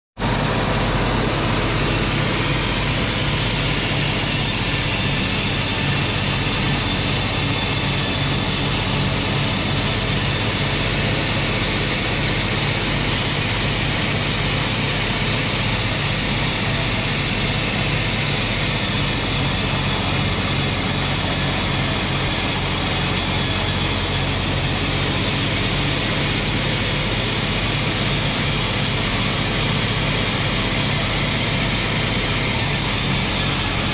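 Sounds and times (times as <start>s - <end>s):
wood machinery droning: 0.2s - 33.9s.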